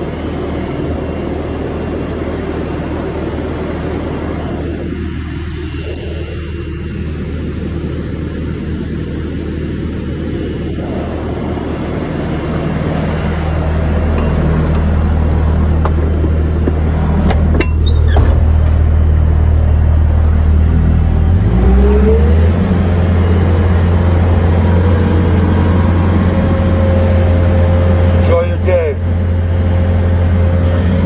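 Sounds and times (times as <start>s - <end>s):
diesel engine running: 0.0s - 31.0s
short rising whine: 0.0s - 31.0s.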